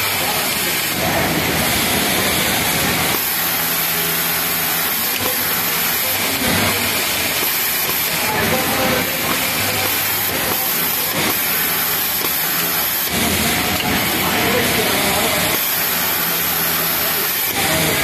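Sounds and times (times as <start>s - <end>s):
factory machinery din: 0.0s - 18.0s
overlock sewing machine hissing: 0.0s - 18.0s.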